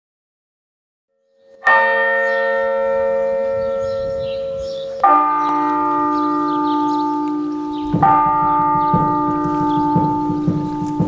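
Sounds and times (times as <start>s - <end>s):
bell ringing: 1.6s - 11.0s.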